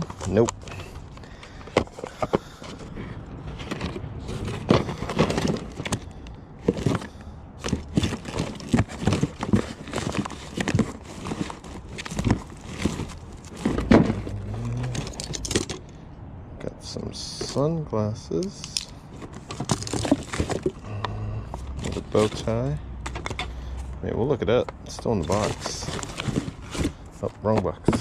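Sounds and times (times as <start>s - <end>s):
rummaging through small items: 0.0s - 16.0s, 17.1s - 28.0s.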